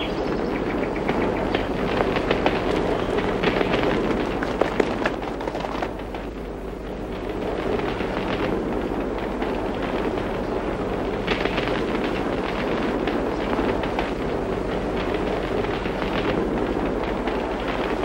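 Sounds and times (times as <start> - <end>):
fire crackling and roaring: 0.0 - 18.0.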